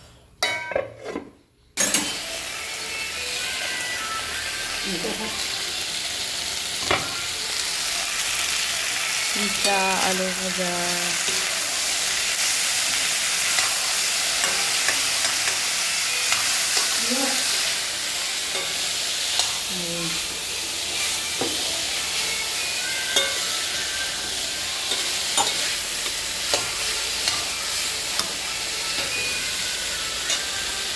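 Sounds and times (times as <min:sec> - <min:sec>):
potatoes sizzling in oil: 0:01.9 - 0:30.9.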